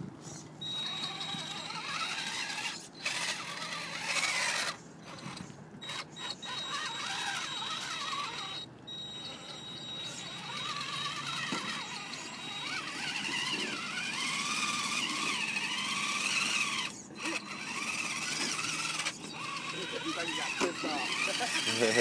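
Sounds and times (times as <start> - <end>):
rc car motor whining: 0.2 - 22.0.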